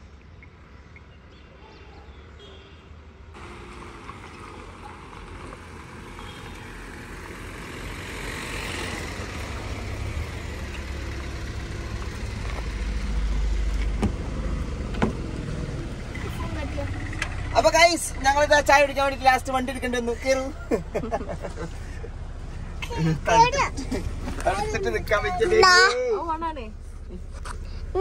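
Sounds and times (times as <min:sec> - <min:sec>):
car engine idling: 0:03.4 - 0:28.0.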